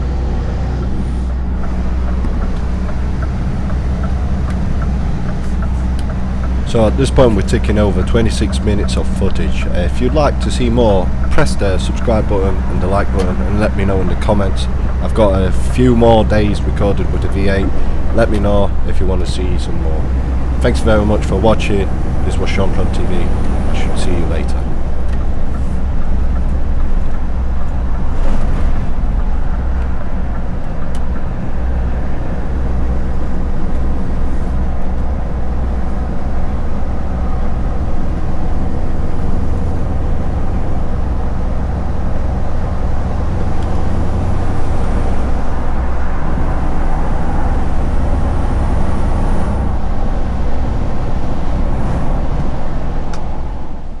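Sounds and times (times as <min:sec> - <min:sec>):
lorry engine drone: 0:00.0 - 0:54.0
road noise: 0:00.0 - 0:54.0.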